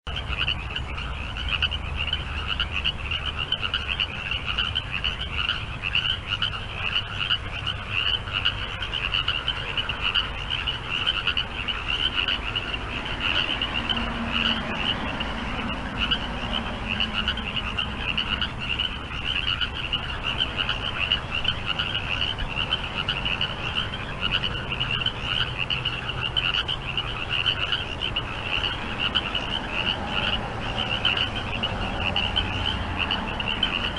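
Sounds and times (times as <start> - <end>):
chorus of frogs calling: 0.1 - 33.9.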